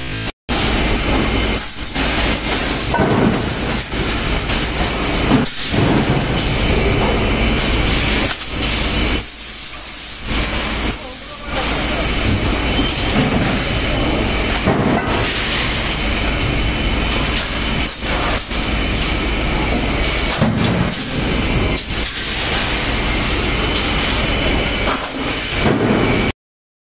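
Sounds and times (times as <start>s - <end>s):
stamping press machinery din: 0.0s - 26.3s.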